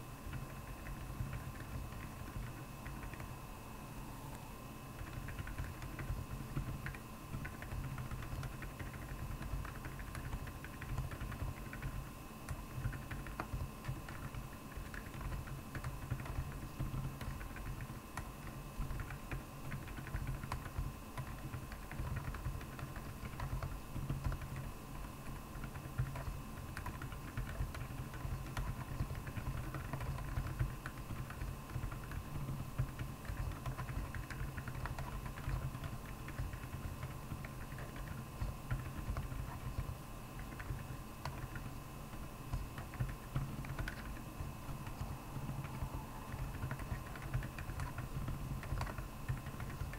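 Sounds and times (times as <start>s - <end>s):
mechanical keyboard typing: 0.2s - 3.3s, 5.0s - 49.9s.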